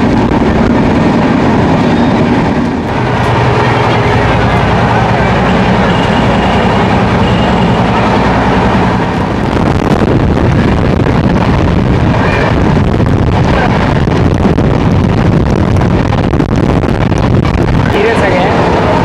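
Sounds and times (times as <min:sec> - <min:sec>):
train wheels rumbling on track: 0:00.0 - 0:19.0
wind rushing in window: 0:00.0 - 0:19.0.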